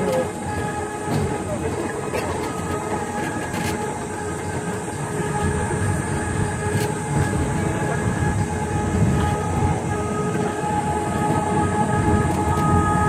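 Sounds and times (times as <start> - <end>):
roller coaster wheels rumbling on rails: 0.0 - 13.0.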